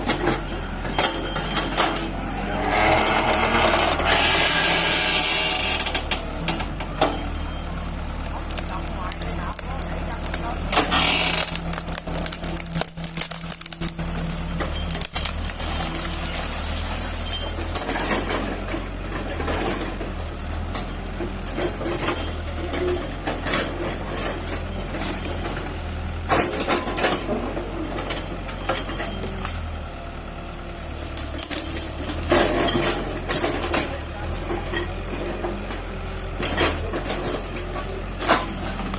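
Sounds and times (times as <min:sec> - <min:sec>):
knocks and clatter: 0:00.0 - 0:07.6, 0:08.4 - 0:29.8, 0:30.9 - 0:38.9
heavy machine engine running: 0:00.0 - 0:38.9.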